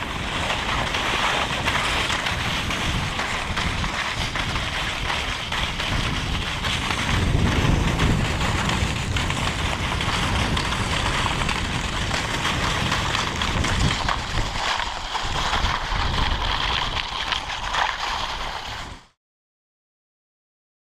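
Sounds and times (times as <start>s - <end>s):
wind buffeting microphone: 0.0s - 19.1s
sled runners hissing over snow: 0.0s - 19.2s.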